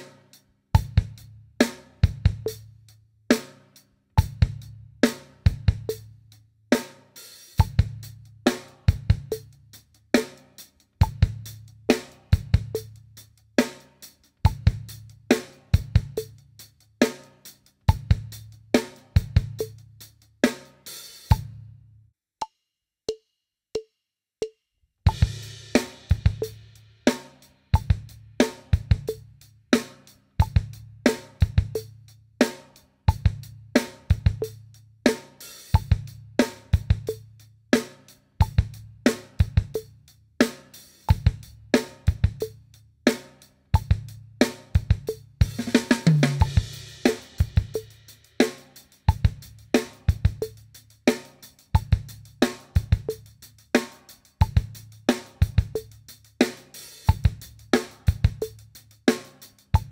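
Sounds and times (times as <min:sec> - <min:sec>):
rock drum groove: 0:00.0 - 0:21.6, 0:25.0 - 0:59.9.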